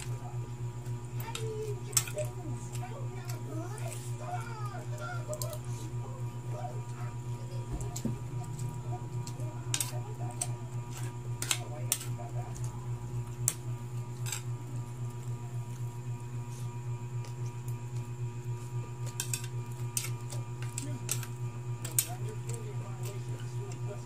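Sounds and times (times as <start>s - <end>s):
low throbbing hum: 0.0s - 24.0s.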